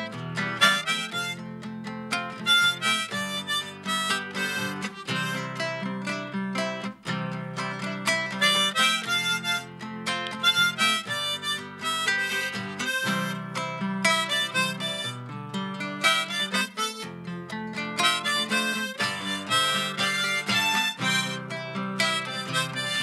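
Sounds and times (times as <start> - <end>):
harmonica playing: 0.0 - 6.9, 7.6 - 23.0
strummed acoustic guitar: 0.0 - 23.0.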